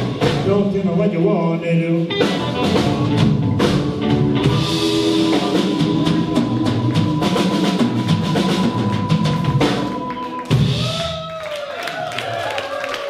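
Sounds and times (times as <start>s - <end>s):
drum rolls and fills: 0.0s - 1.2s, 2.0s - 12.6s.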